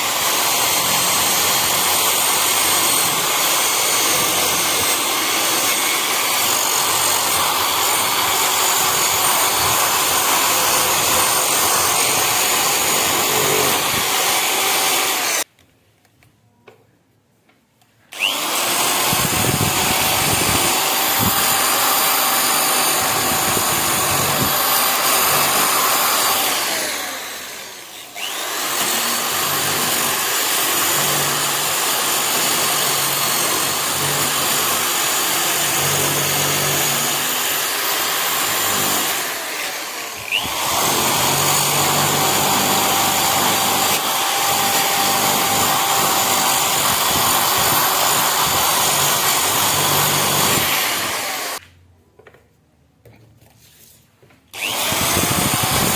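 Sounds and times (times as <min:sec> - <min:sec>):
power tool motor whining: 0:00.0 - 0:15.5, 0:18.1 - 0:51.6, 0:54.5 - 0:55.9.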